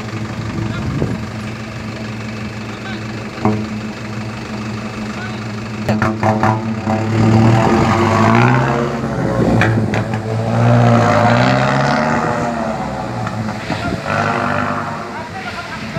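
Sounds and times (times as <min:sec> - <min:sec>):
truck engine revving through exhaust: 0:00.0 - 0:15.9.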